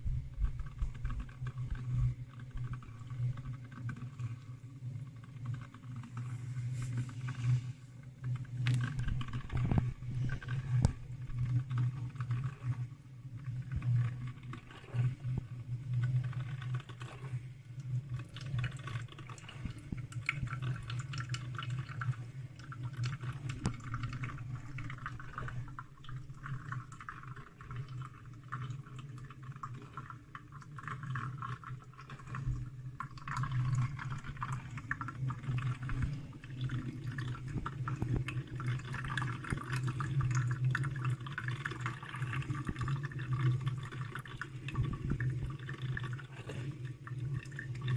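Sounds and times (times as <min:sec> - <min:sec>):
coffee maker water gurgling: 0:00.0 - 0:47.9
steady low hum: 0:00.0 - 0:47.9.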